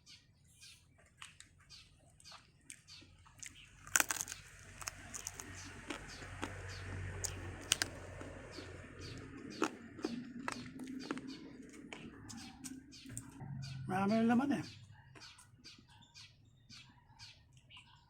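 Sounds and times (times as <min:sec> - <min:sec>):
crunchy food being chewed: 0:00.8 - 0:13.4, 0:15.0 - 0:18.0.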